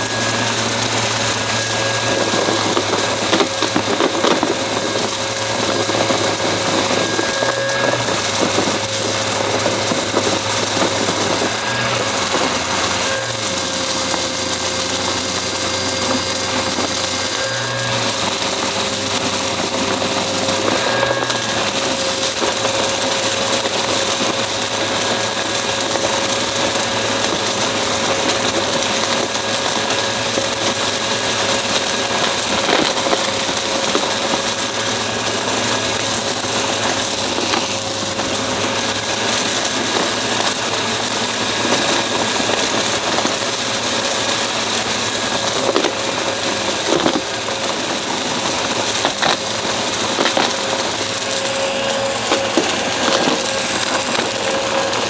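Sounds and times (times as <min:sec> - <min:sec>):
debris crackling in vacuum: 0:00.0 - 0:55.0
vacuum cleaner motor whine: 0:00.0 - 0:55.0.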